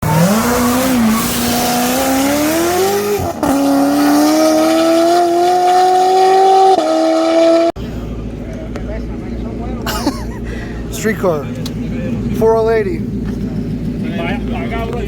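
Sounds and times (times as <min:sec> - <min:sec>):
car accelerating at full throttle: 0:00.0 - 0:09.8, 0:10.4 - 0:15.0.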